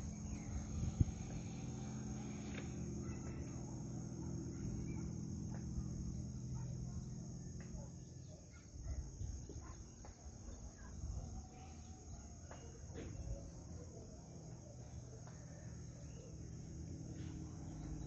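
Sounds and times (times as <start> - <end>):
insects trilling: 0.0 - 18.0
low hum: 0.0 - 18.0.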